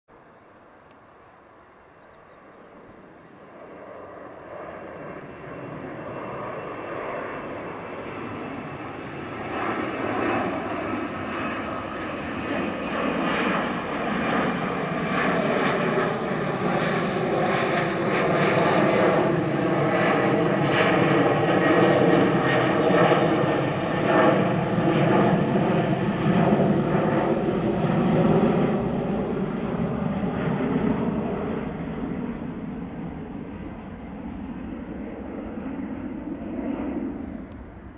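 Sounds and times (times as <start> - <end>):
jet airliner passing overhead: 0.1 - 37.9.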